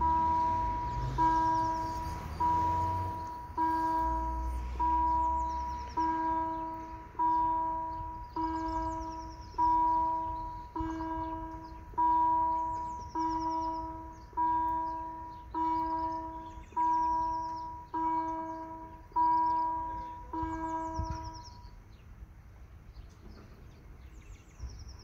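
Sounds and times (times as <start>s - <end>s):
level crossing warning bell: 0.0s - 21.9s
birds singing: 0.0s - 22.2s, 22.8s - 25.0s.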